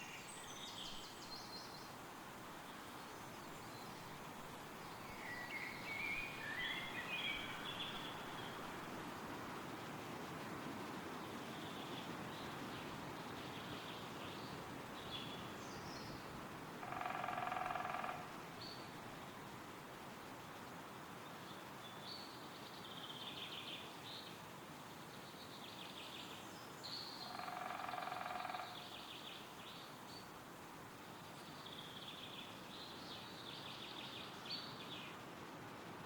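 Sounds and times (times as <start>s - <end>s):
wind rustling through trees: 0.0s - 36.0s.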